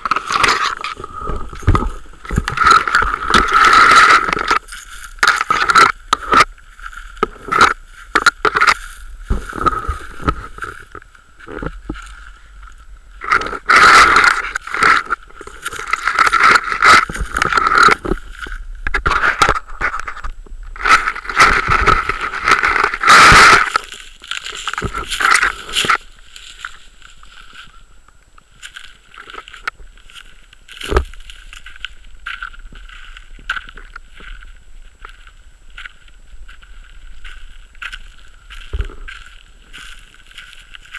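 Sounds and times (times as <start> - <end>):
camera scraping through dry grass: 0.0 - 27.9, 28.5 - 40.9
faint steady tone: 0.0 - 40.9.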